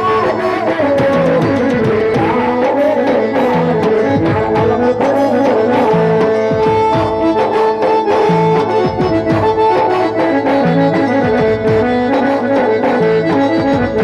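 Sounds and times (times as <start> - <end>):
held notes: 0.0 - 14.0
steady drum beat: 0.0 - 14.0.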